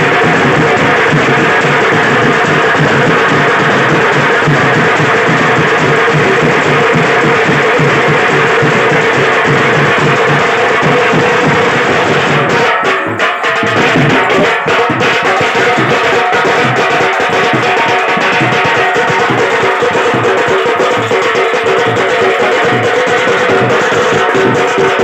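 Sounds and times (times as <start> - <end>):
stick-beaten drum: 0.0 - 25.0.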